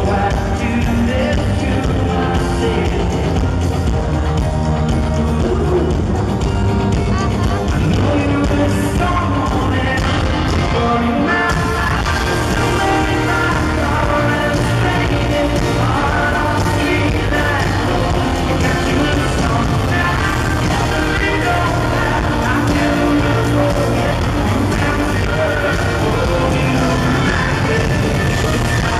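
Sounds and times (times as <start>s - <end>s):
live rock band playing: 0.0s - 28.9s
male singer: 0.0s - 28.9s.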